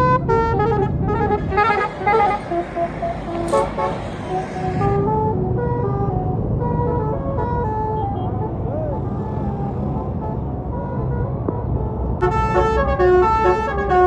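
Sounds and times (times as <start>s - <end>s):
bus melody horn: 0.0s - 14.0s
rush of vehicle noise: 0.0s - 14.0s.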